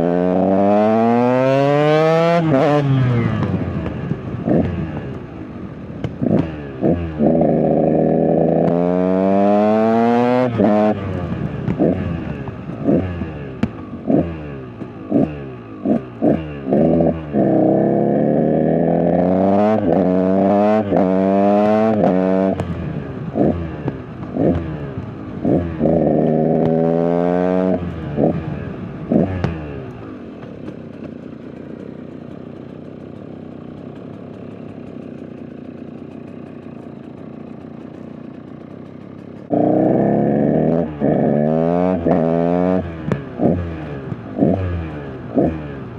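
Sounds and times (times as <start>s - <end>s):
dirt bike engine revving: 0.0s - 5.2s, 6.0s - 45.9s.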